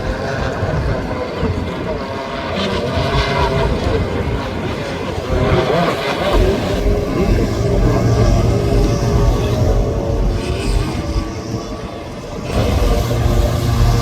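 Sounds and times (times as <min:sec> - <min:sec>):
motorized surfboard engines: 0:00.0 - 0:14.0.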